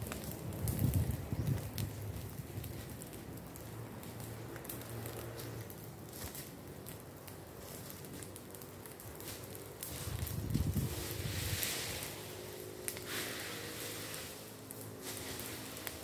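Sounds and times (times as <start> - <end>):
burning leaves crackling: 0.0 - 16.0
fire popping: 0.0 - 16.0.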